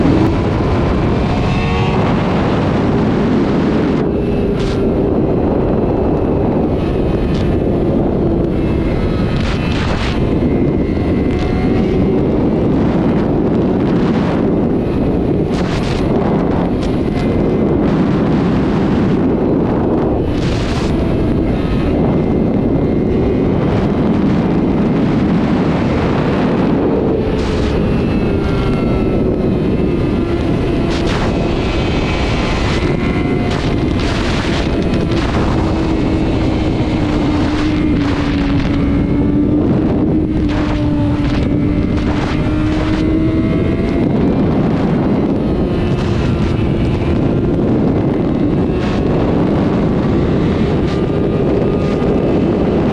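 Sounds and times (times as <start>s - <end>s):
motorcycle engine: 0.0s - 52.9s
wind rush over microphone: 0.0s - 52.9s.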